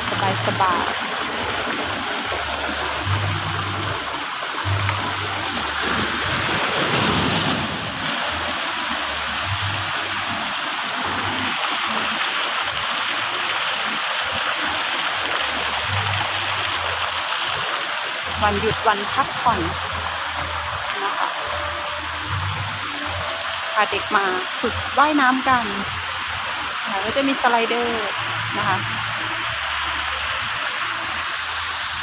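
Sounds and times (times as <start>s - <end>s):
fountain water splashing into pool: 0.0s - 32.0s.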